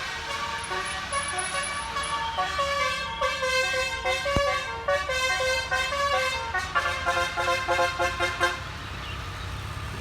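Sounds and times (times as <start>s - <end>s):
bus musical horn melody: 0.0s - 8.8s.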